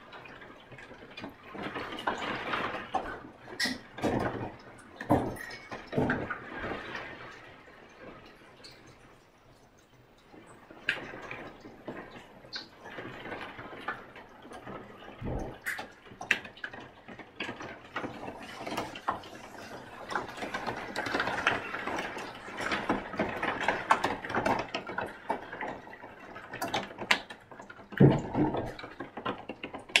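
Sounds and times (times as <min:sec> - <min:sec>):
rain drops ticking on window: 0:00.0 - 0:30.0.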